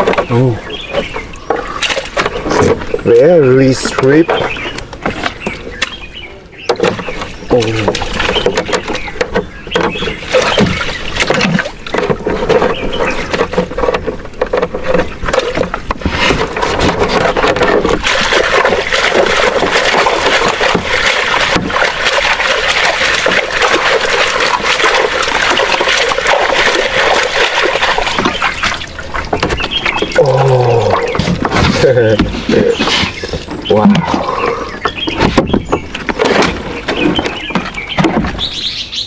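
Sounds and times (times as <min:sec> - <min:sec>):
water splashing and trickling: 0:00.0 - 0:39.0.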